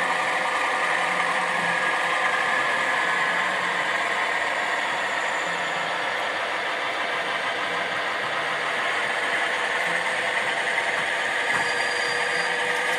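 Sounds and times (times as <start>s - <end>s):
diesel engine idling through small speaker: 0.0s - 12.9s.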